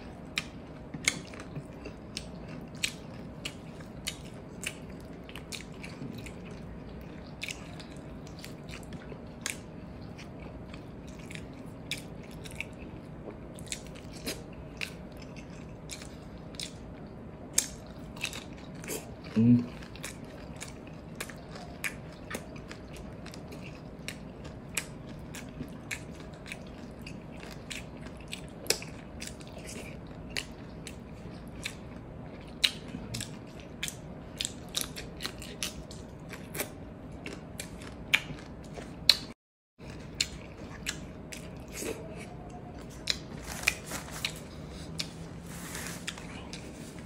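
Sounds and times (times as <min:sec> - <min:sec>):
faint steady hum: 0:00.0 - 0:47.0
chewing and lip smacks: 0:00.1 - 0:45.3.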